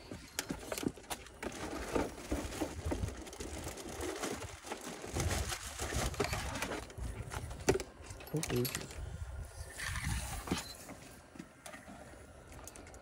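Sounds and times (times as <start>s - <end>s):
wire and tools rustling and clicking: 0.0s - 13.0s.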